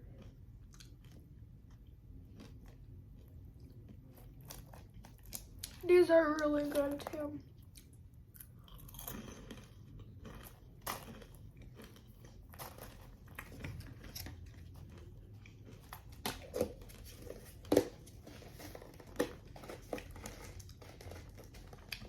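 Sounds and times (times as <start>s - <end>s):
person chewing crunchy candy: 0.0s - 22.0s.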